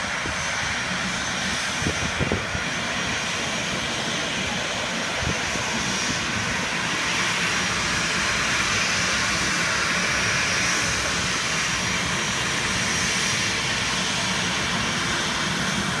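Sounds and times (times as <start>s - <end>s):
high jet whine: 0.0s - 16.0s
jet engines roaring: 0.0s - 16.0s.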